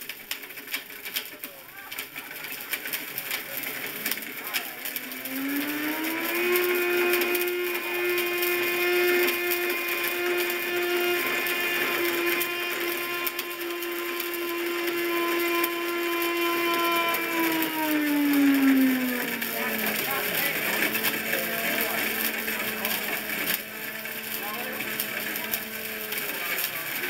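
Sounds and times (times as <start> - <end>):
blender motor grinding: 0.0 - 27.0.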